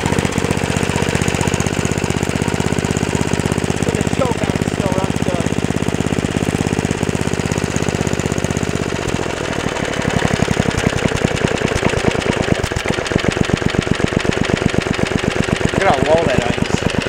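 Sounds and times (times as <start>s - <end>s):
small gasoline engine running: 0.0s - 17.0s.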